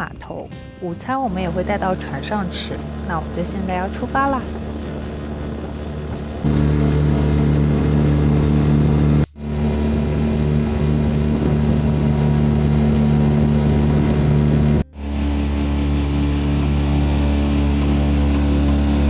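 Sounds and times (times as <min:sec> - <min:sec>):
outboard motor running: 0:01.1 - 0:19.0.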